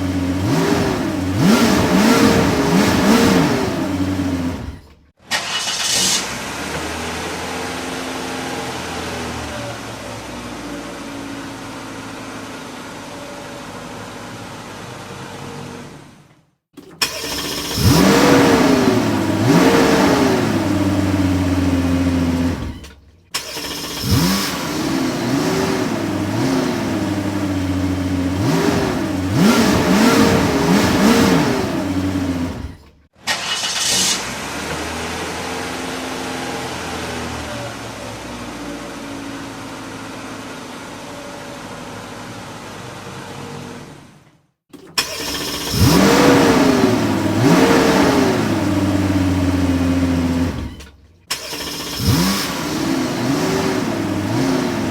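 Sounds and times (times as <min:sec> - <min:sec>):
car engines revving: 0:00.0 - 0:16.2, 0:16.8 - 0:44.1, 0:44.9 - 0:54.9.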